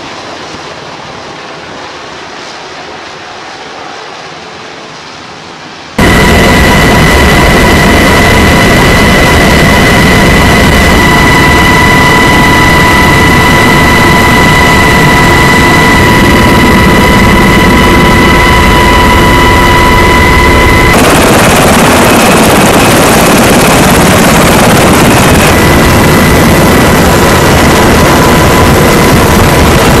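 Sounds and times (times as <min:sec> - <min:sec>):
broad rushing noise: 0:00.0 - 0:30.0
helicopter cabin noise: 0:00.0 - 0:30.0
high steady whine: 0:00.0 - 0:30.0.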